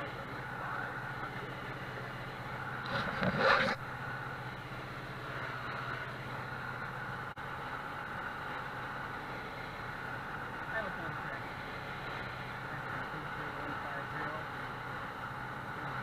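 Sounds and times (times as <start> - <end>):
airplane engine droning: 0.0 - 16.0.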